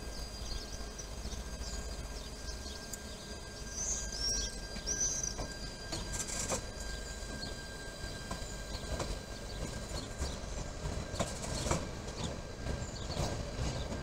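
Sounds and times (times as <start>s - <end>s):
sharp clicks of train: 0.0s - 14.0s
train passing with rumble: 0.0s - 14.0s.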